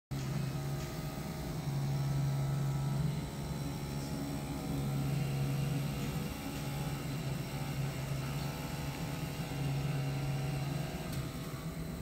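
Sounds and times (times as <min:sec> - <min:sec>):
fabric cutting machine humming: 0:00.1 - 0:12.0.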